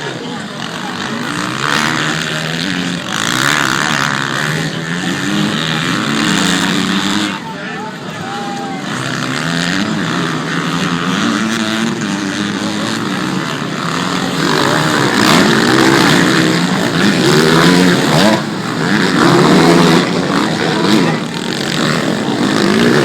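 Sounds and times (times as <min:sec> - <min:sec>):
off-road motorcycle engines revving: 0:00.0 - 0:23.0.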